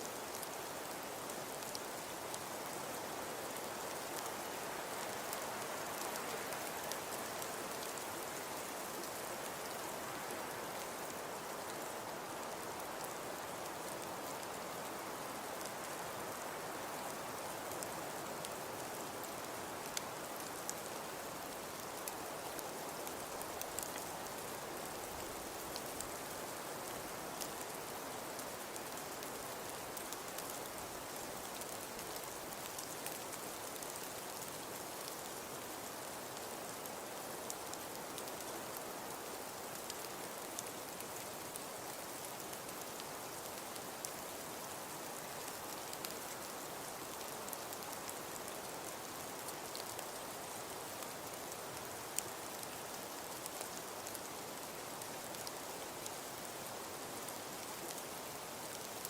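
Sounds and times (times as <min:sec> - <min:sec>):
faint ticks of snowflakes: 0:00.0 - 0:59.0
soft hiss of falling snow: 0:00.0 - 0:59.0.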